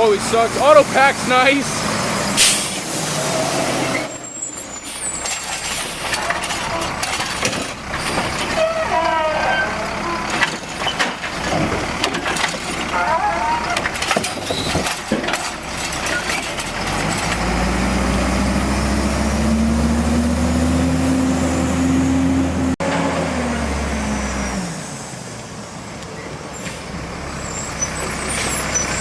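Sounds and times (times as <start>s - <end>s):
garbage truck engine revving: 0.0s - 29.0s.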